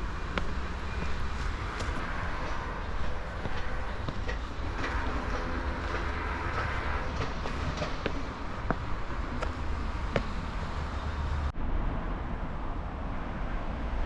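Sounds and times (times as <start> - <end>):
low rumble of distant vehicles: 0.0 - 14.0.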